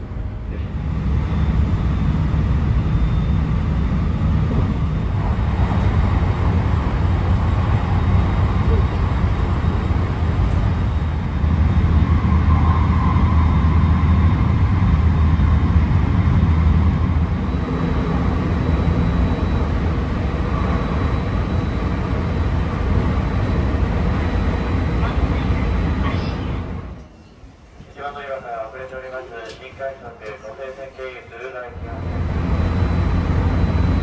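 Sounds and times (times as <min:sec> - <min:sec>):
train passing alongside: 0:00.0 - 0:34.0
train wheels rumbling on rails: 0:00.0 - 0:34.0.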